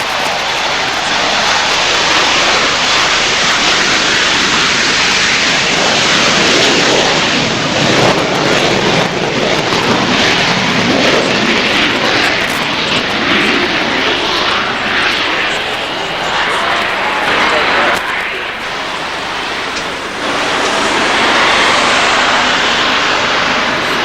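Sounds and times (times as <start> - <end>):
jet aircraft roaring: 0.0 - 24.0.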